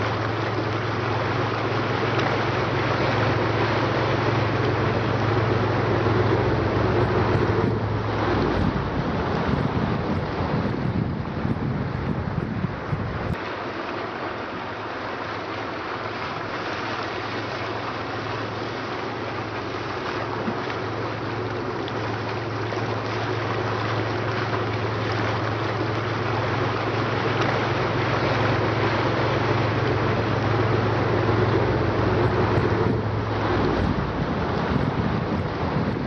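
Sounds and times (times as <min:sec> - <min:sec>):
boat engine humming: 0:00.0 - 0:36.0
water wash: 0:00.0 - 0:36.0
wind noise: 0:00.0 - 0:36.0.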